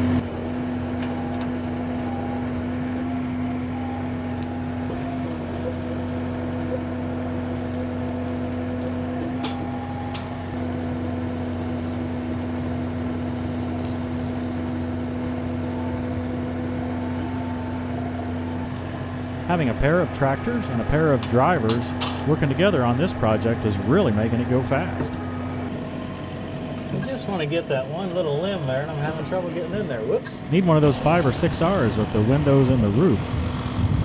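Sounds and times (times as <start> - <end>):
diesel tractor running: 0.0 - 34.0.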